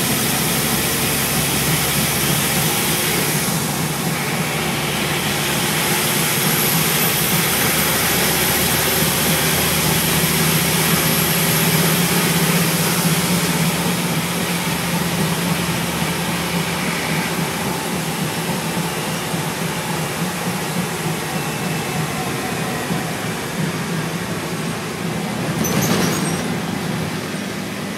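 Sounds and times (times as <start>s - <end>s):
bus engine drone: 0.0s - 27.9s.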